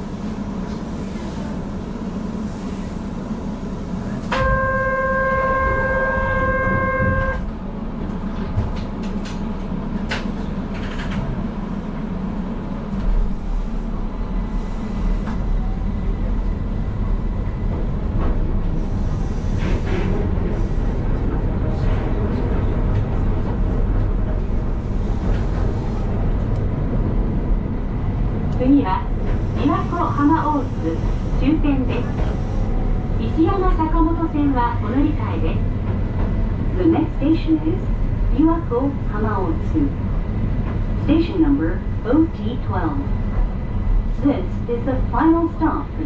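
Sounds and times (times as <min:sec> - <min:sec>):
train running rumble: 0:00.0 - 0:46.0.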